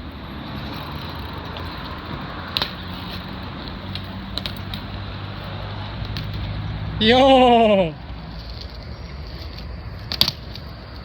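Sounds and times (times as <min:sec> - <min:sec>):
low hum of traffic: 0:00.0 - 0:11.0.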